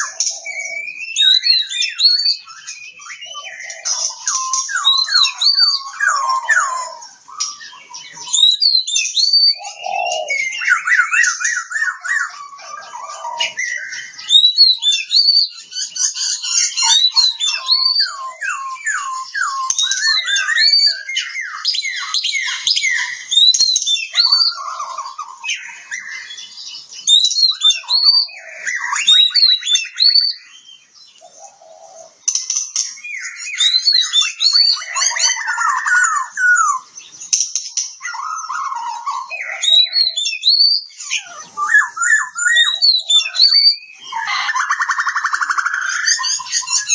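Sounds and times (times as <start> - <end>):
bird singing varied song: 0.0 - 46.9.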